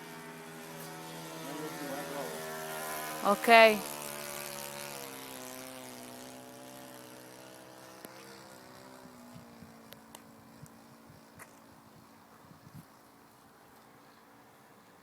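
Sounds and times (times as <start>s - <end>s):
model airplane engine buzzing: 0.0s - 13.1s.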